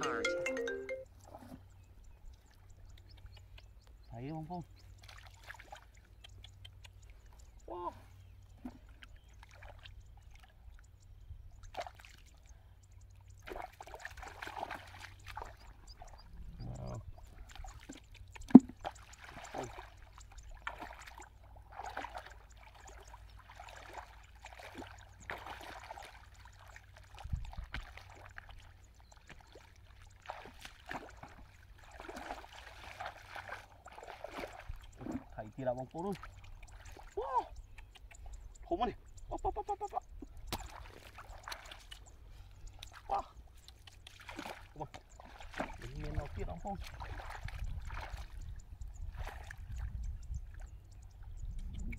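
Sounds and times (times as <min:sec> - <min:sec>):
bare feet wading in muddy water: 0:01.1 - 0:51.9.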